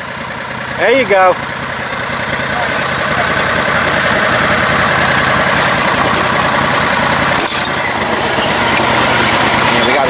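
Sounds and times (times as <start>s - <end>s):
lawn mower engine running: 0.0s - 10.0s.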